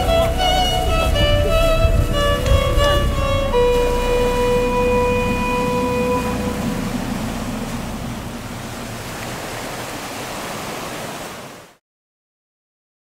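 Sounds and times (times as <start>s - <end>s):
waves breaking on rocky shore: 0.0s - 11.8s.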